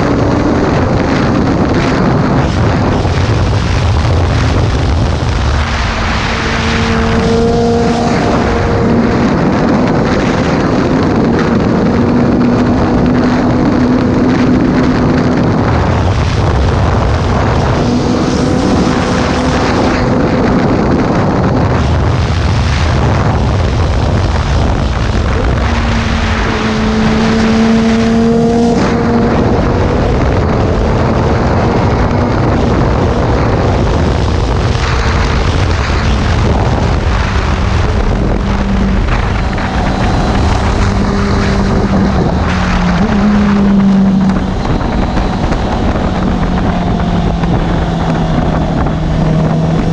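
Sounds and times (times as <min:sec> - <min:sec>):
motorcycle engine at high speed: 0:00.0 - 0:49.9
rushing wind and road noise: 0:00.0 - 0:49.9.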